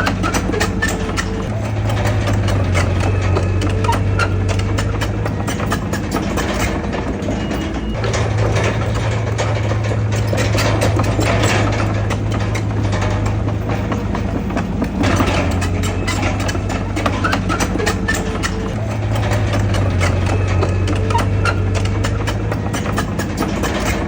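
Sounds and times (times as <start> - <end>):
heavy diesel machinery engine: 0.0 - 24.0
machinery clanks and rattles: 0.0 - 24.0.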